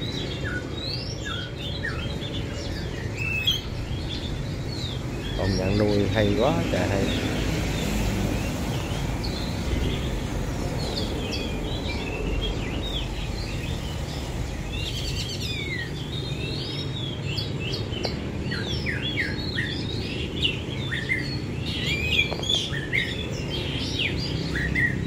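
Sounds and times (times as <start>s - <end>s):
songbirds chirping and warbling: 0.0s - 25.0s.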